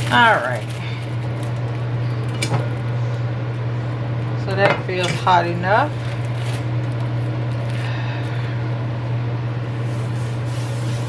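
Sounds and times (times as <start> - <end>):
stove fan humming: 0.0 - 11.0.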